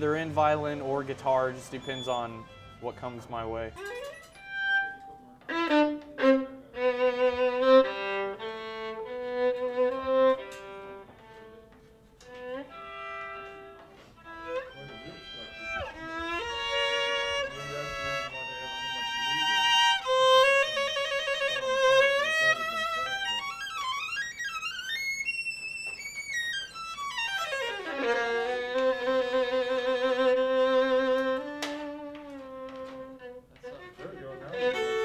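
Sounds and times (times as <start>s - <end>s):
solo violin playing: 0.0s - 35.0s.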